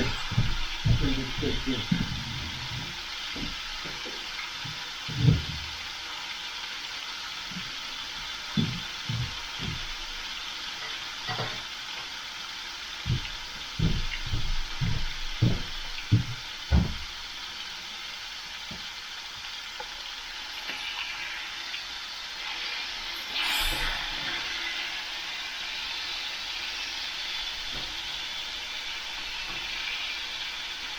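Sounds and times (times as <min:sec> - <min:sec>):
bacon sizzling in a frying pan: 0:00.0 - 0:30.9.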